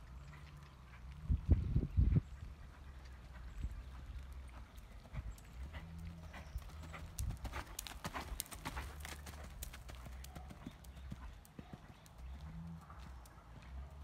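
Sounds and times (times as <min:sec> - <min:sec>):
hooves thudding on sand: 0:00.0 - 0:14.0.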